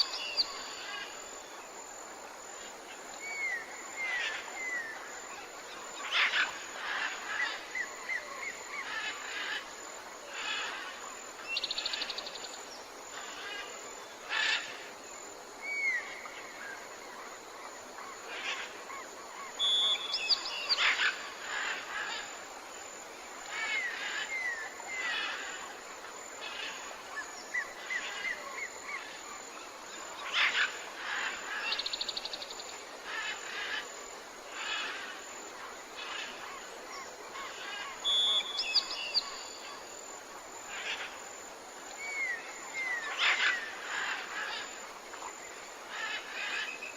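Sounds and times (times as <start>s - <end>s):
background hiss: 0.0s - 46.9s.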